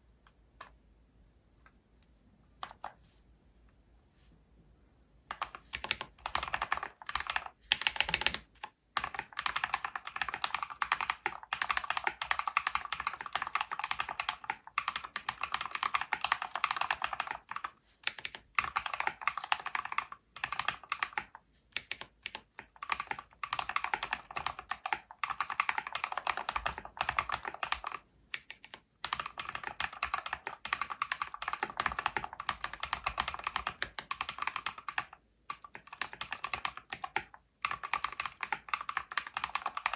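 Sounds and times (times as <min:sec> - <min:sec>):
typing on mechanical keyboard: 0:05.3 - 0:39.9.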